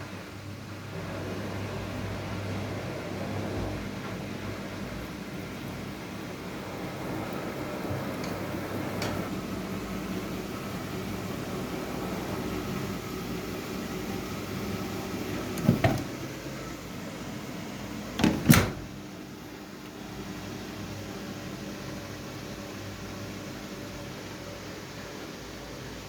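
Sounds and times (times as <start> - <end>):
washing machine humming: 0.0 - 26.0.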